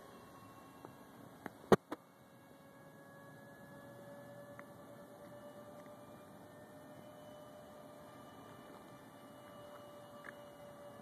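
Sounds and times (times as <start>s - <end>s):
distant model jet whine: 0.0s - 11.0s.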